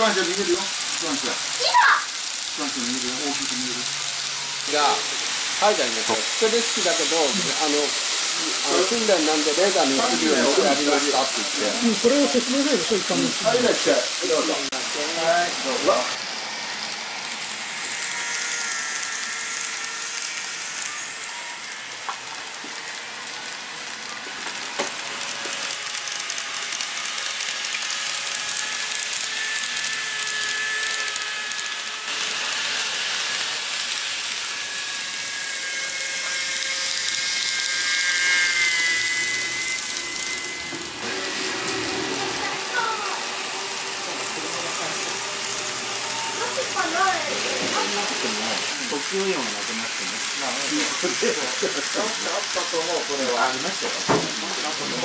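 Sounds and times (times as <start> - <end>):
electric motor whine: 0.0 - 55.0
model train wheels rolling on track: 0.0 - 55.0.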